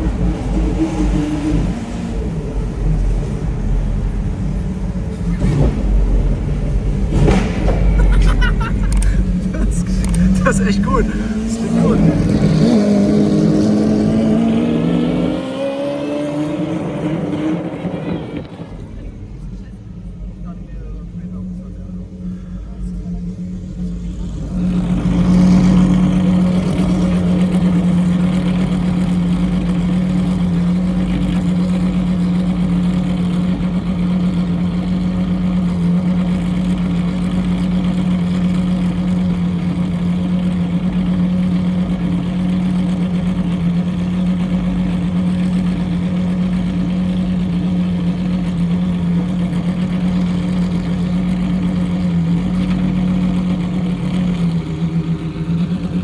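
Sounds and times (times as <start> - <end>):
car engine running steadily: 0.0 - 56.0.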